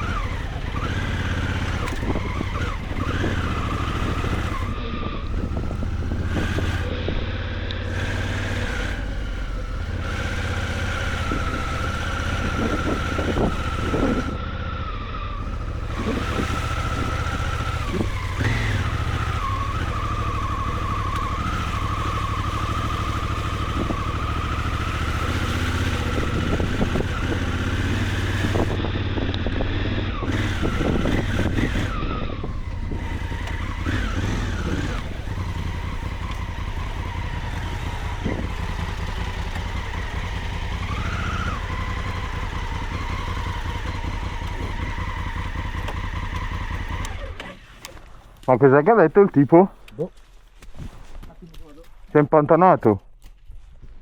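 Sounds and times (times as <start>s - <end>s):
motorcycle engine revving: 0.0s - 49.7s.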